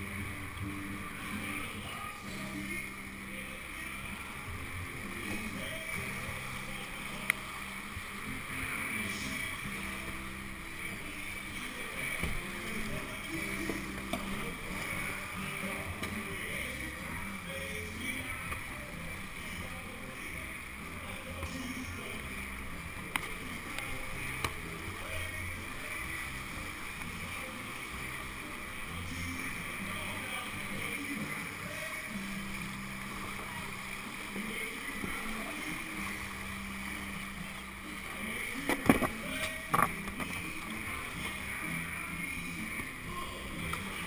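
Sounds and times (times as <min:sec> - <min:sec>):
whitewater rushing: 0:00.0 - 0:44.0.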